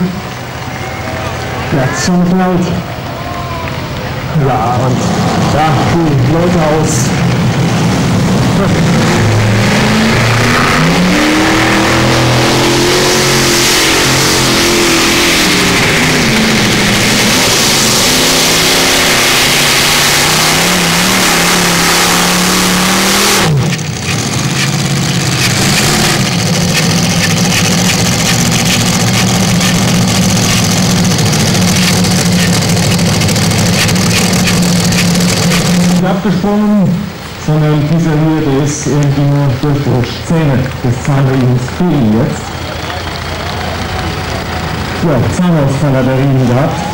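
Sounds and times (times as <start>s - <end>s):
tractor engines at full throttle: 0.0s - 46.9s.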